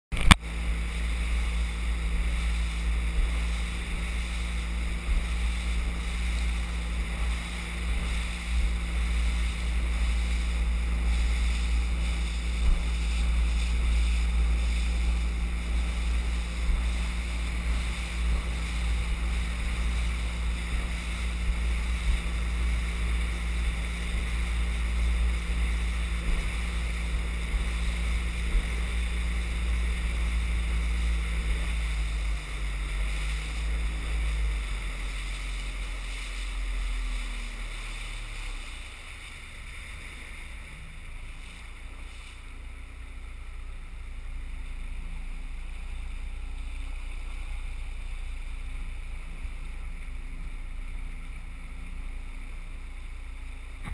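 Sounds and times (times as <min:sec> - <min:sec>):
outboard motor running: 0:00.1 - 0:53.9
water rushing past: 0:00.1 - 0:53.9.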